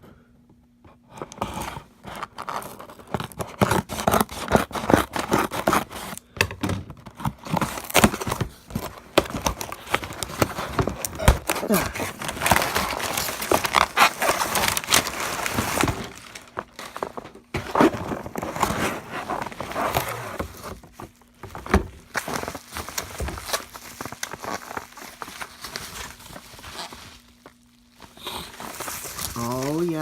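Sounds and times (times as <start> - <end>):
packaging rustling and crinkling: 1.2 - 30.0.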